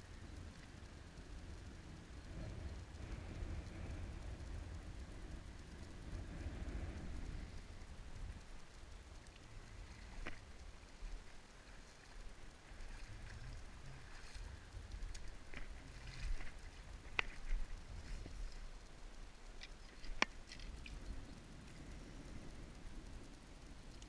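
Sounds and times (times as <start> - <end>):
low steady rumble: 0.0 - 24.0
river water lapping: 2.4 - 24.0.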